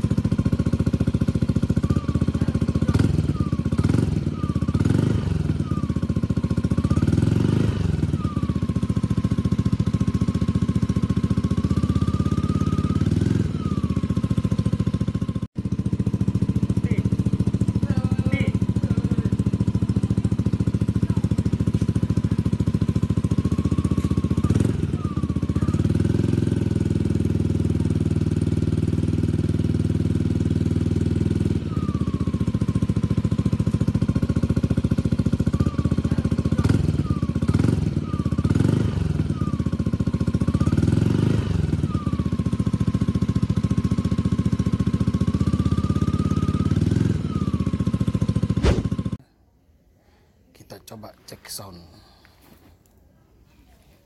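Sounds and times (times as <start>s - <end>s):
scooter engine idling and revving: 0.0s - 49.3s.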